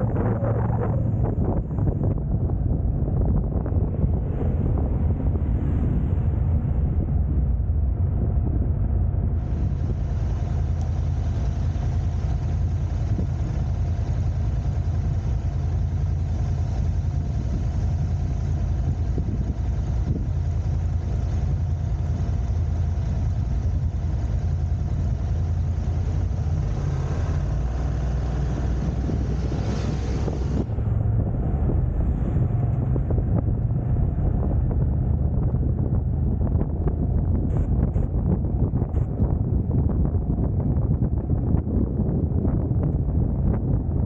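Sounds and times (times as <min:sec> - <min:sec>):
car engine rumble: 0:00.0 - 0:44.0
road noise: 0:00.0 - 0:44.0.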